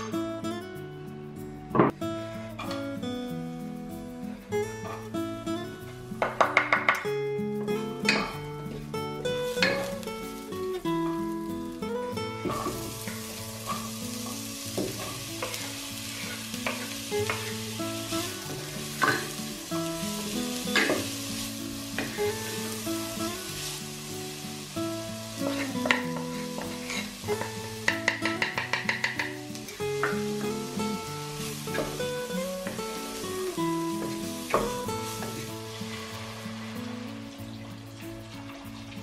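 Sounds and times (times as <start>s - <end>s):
soft background music: 0.0s - 39.0s
onion sizzling in oil: 3.0s - 39.0s.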